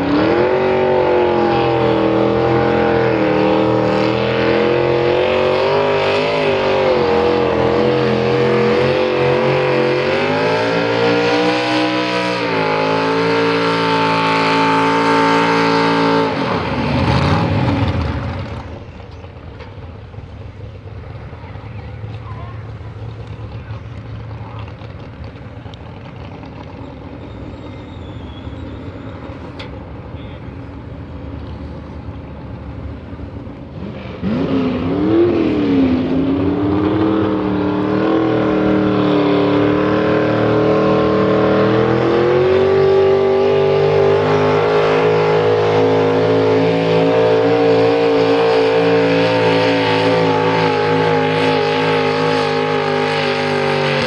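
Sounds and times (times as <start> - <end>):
tractor engine revving: 0.0 - 54.0.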